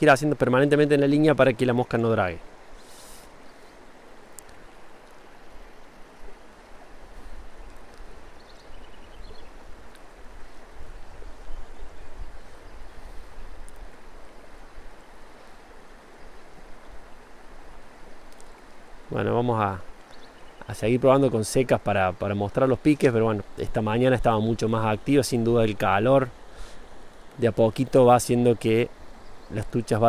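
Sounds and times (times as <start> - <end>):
river rushing over stones: 0.0 - 30.0.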